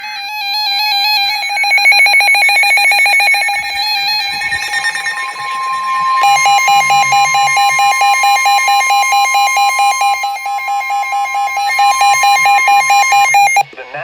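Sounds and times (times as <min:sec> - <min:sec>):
steady warning tone: 0:00.0 - 0:13.6
weather radio alarm beeps: 0:00.0 - 0:13.6.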